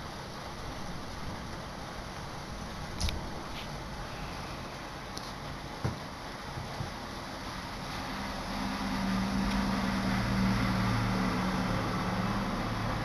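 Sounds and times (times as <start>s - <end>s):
background hiss: 0.0s - 13.0s
vehicle engine hum: 2.4s - 13.0s.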